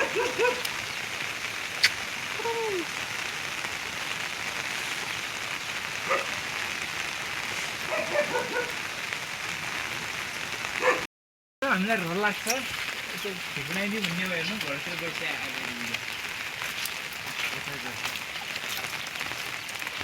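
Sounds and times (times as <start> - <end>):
heavy rain falling: 0.0 - 11.0, 11.6 - 20.0.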